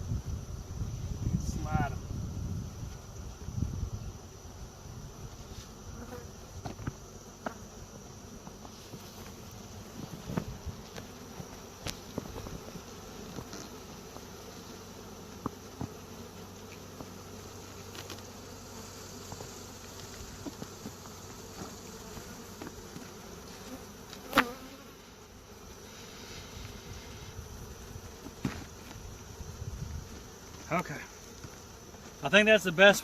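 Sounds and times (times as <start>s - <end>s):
bees buzzing: 0.0s - 33.0s.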